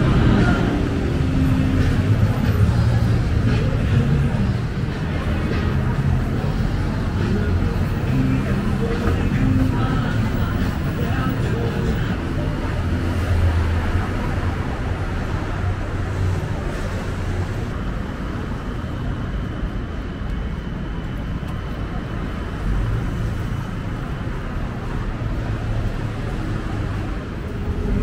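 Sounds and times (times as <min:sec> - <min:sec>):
deep engine rumble: 0:00.0 - 0:28.0
road traffic hum: 0:00.0 - 0:28.0.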